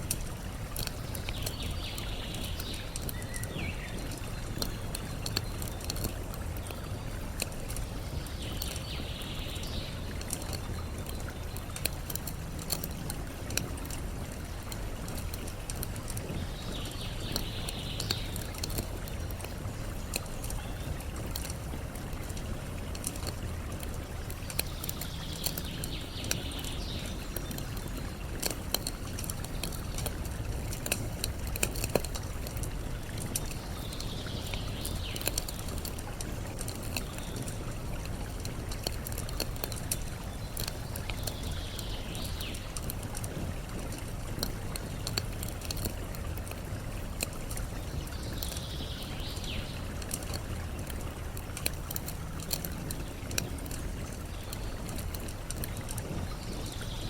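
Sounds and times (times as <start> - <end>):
campfire crackling and popping: 0.0 - 57.0
flowing water: 0.0 - 57.0.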